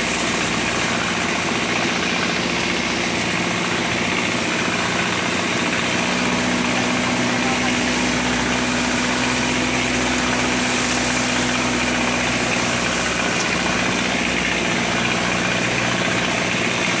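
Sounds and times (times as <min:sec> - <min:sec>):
boat engine running: 0:00.0 - 0:17.0
hiss of water and wind: 0:00.0 - 0:17.0.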